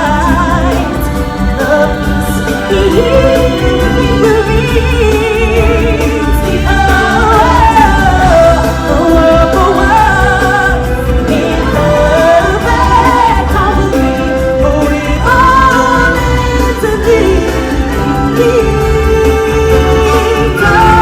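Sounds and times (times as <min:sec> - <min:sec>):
singers with band accompaniment: 0:00.0 - 0:21.0.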